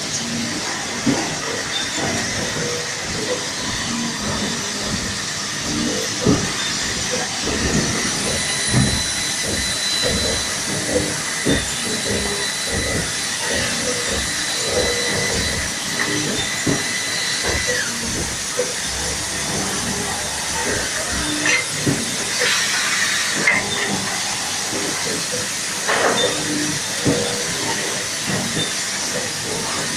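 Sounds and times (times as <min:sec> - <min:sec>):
machine tools hissing and whining: 0:00.0 - 0:29.9
knocks and clanks: 0:00.2 - 0:29.9.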